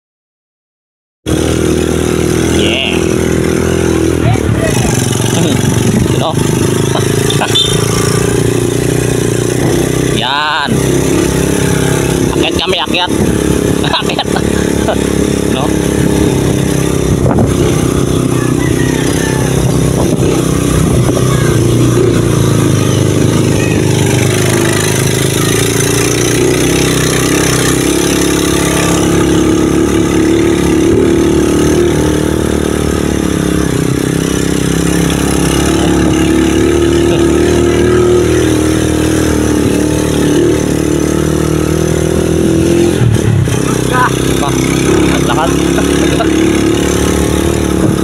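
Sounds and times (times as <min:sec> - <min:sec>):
small motorcycle engine running: 0:01.3 - 0:48.0.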